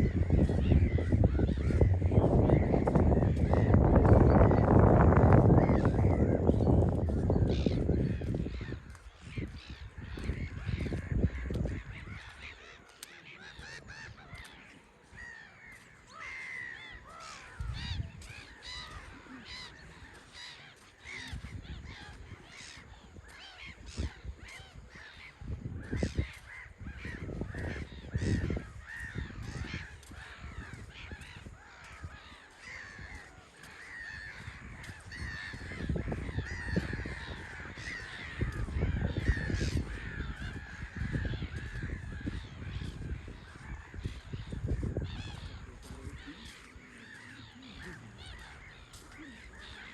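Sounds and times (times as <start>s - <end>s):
seabirds calling: 0.0s - 49.9s.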